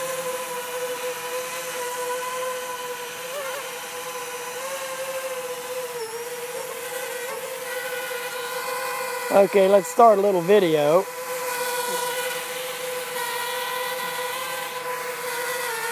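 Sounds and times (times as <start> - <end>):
drone propellers buzzing: 0.0 - 15.9.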